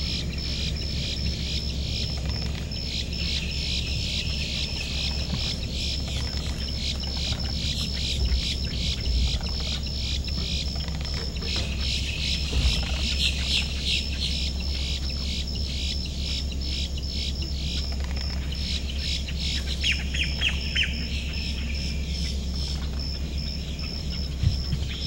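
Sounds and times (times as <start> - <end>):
birds chirping: 0.0 - 25.0
high-pitched pulsing bird call: 0.0 - 25.0
steady low hum: 0.0 - 25.0.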